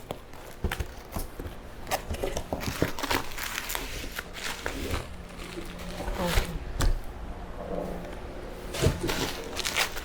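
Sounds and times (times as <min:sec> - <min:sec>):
packaging crinkling: 0:00.0 - 0:07.0, 0:08.7 - 0:10.0.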